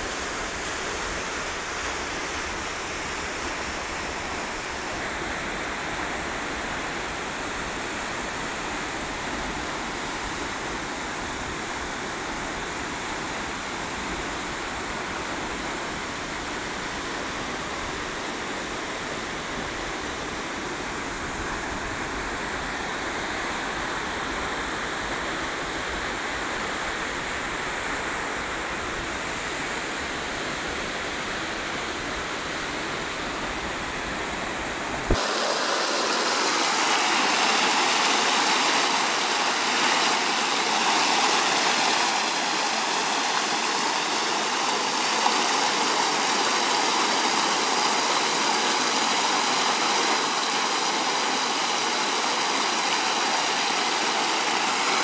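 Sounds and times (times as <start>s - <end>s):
stream and waterfall rushing over rocks: 0.0s - 55.0s.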